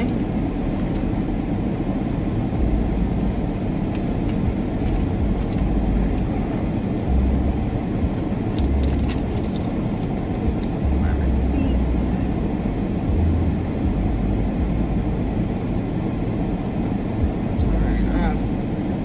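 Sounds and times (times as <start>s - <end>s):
deeper low rumble: 0.0s - 18.9s
car cabin rumble and hiss: 0.0s - 19.0s.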